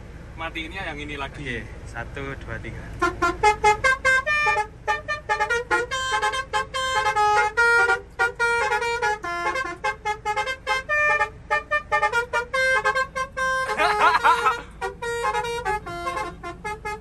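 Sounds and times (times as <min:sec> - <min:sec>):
musical truck horn melody: 0:02.9 - 0:17.0.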